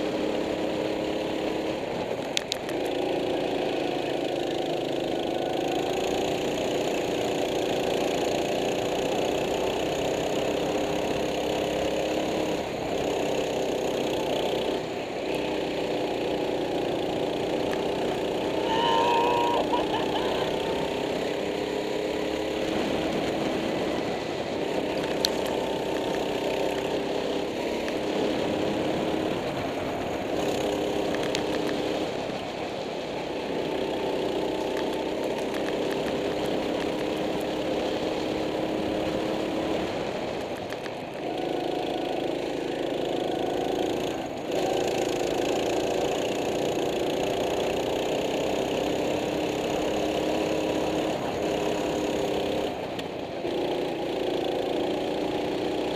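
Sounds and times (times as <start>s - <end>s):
go-kart engine running: 0.0s - 55.9s.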